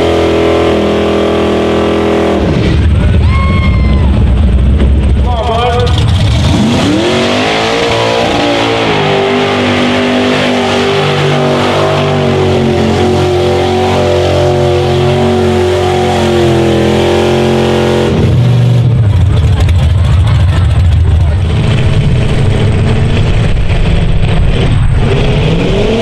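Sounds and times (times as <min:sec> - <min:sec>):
truck engine revving high: 0:00.0 - 0:26.0.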